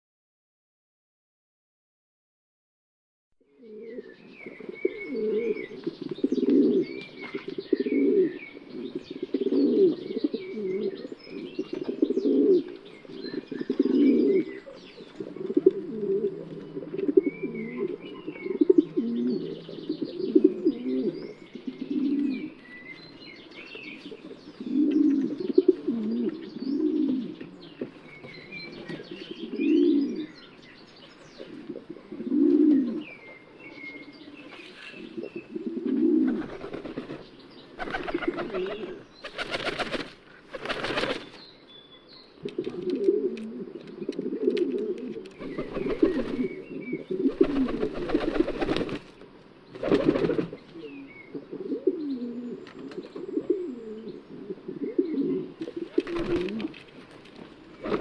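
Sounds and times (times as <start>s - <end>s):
small birds chirping: 3.5s - 15.9s, 16.5s - 35.6s, 36.3s - 58.0s
pigeons cooing: 3.5s - 22.7s, 23.9s - 30.5s, 31.3s - 40.0s, 42.4s - 49.1s, 49.8s - 56.8s.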